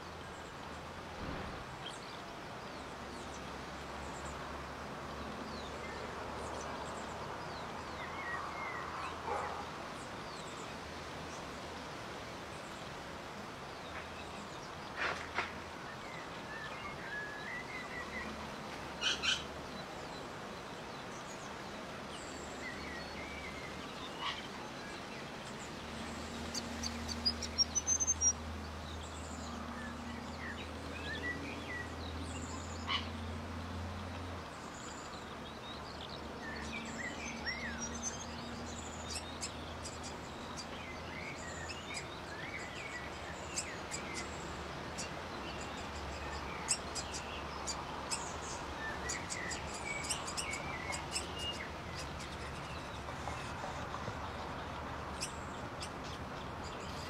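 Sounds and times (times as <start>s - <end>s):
steady background hiss: 0.0s - 57.0s
small birds chirping: 5.1s - 57.0s.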